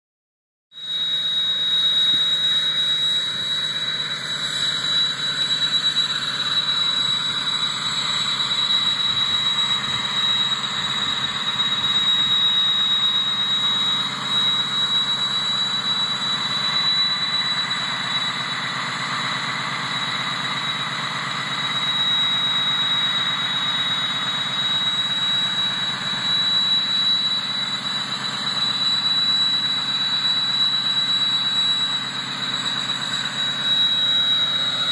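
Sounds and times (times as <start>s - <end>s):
turbo whistle: 0.7s - 34.9s
engine running at high idle: 0.8s - 34.9s.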